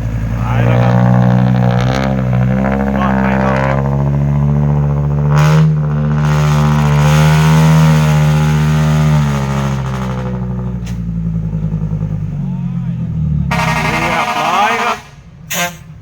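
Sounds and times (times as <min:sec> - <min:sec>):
diesel truck engine revving: 0:00.0 - 0:16.0.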